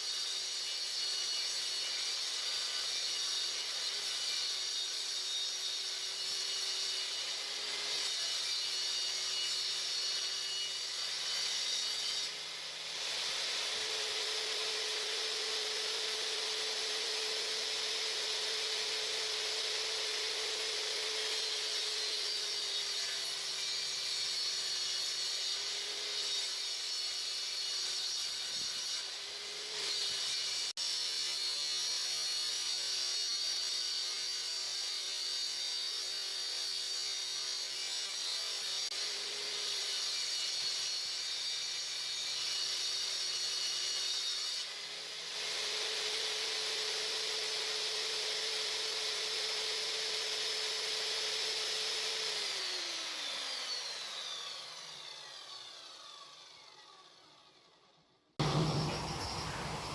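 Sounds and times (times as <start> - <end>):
table saw cutting board: 0.0 - 31.7, 38.4 - 56.0, 58.4 - 59.9.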